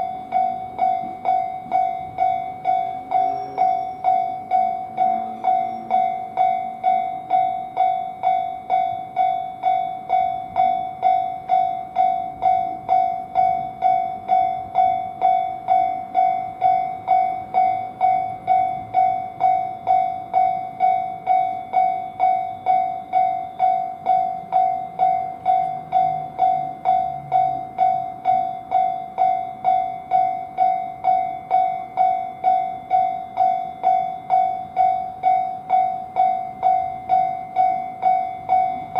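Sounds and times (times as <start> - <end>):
level crossing warning bell: 0.0 - 38.9.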